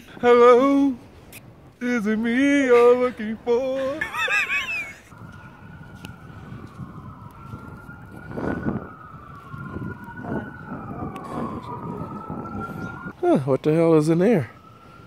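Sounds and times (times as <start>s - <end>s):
siren wailing: 2.6s - 15.0s.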